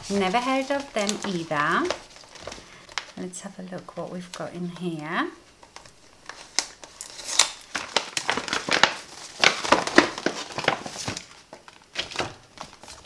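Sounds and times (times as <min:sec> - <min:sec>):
paper packaging rustling: 0:00.0 - 0:13.0.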